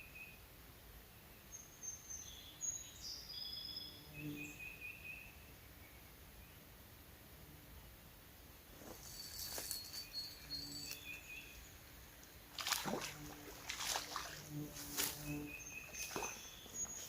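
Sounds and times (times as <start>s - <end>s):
faint riverside ambience: 0.0s - 17.0s.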